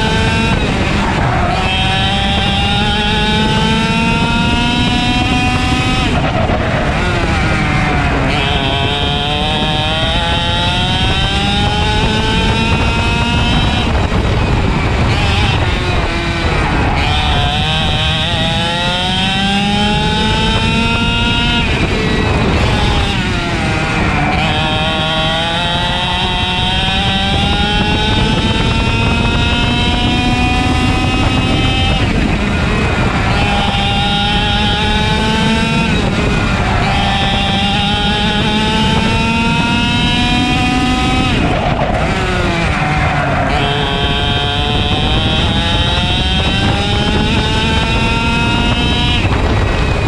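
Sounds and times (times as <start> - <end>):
two-stroke kart engine revving: 0.0 - 50.0.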